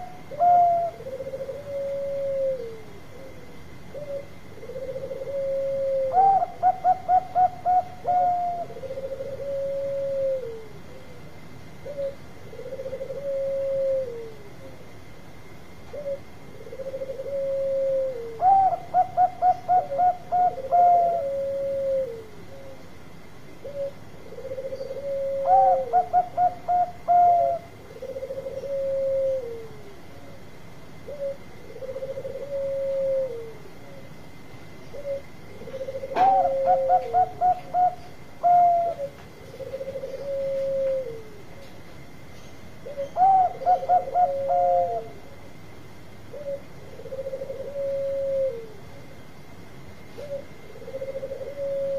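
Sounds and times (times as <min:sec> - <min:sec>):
dove cooing: 0:00.0 - 0:49.4, 0:50.0 - 0:51.9.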